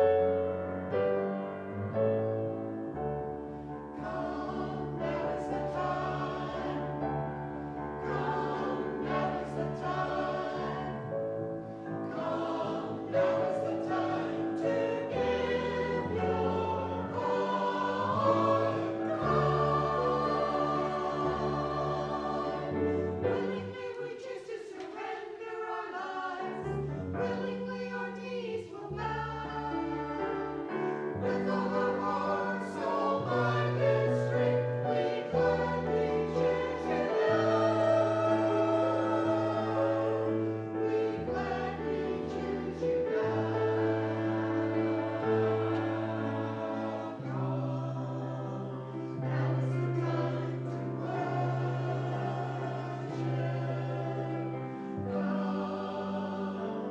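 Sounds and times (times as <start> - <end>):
choir singing held chords: 0.0 - 56.9.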